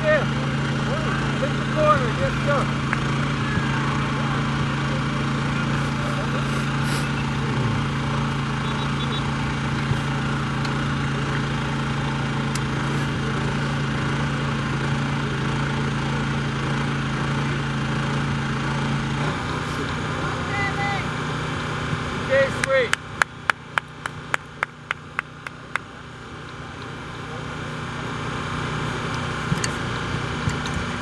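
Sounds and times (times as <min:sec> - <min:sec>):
small engine humming: 0:00.0 - 0:31.0.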